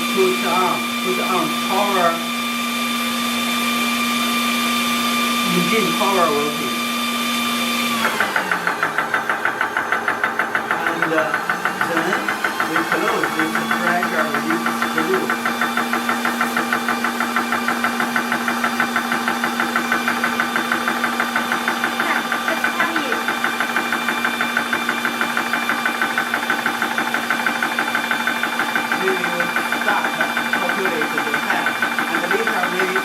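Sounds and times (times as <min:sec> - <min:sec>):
air compressor pumping: 0:00.0 - 0:33.0
compressor hum: 0:00.0 - 0:33.0.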